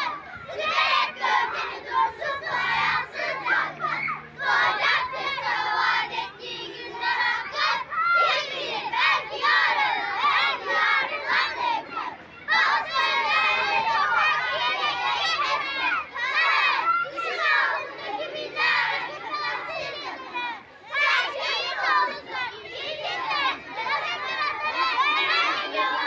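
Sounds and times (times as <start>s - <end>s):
young children's voices: 0.0s - 26.0s.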